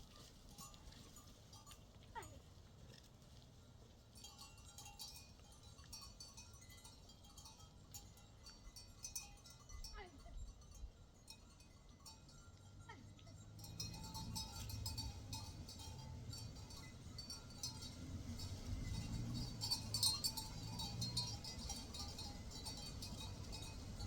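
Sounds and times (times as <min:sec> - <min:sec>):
livestock bells clinking: 0:00.0 - 0:24.0.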